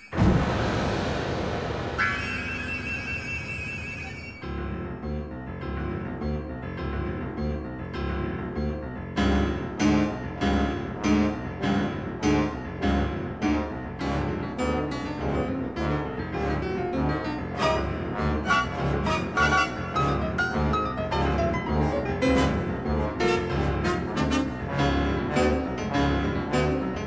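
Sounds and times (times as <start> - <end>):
piano-led music: 2.0 - 27.0.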